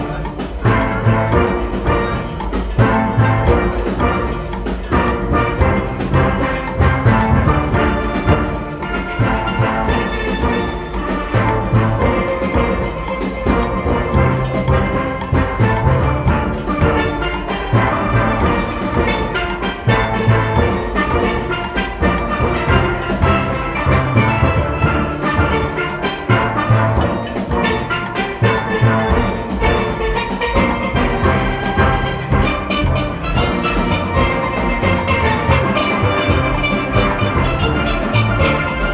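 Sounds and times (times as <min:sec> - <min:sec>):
drum and percussion beat: 0:00.0 - 0:38.9
steelpans playing: 0:00.0 - 0:38.9.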